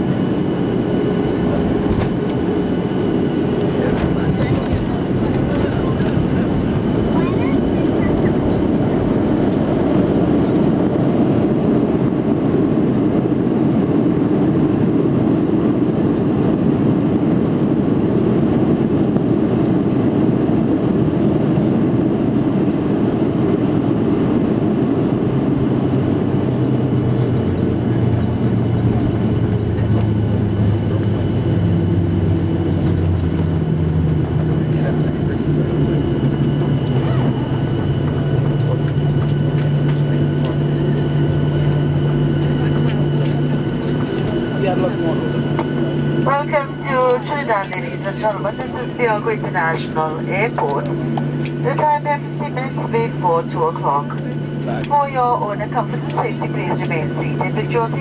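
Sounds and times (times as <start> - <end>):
airliner engines rumbling: 0.0 - 58.0
low engine hum tones: 0.0 - 58.0.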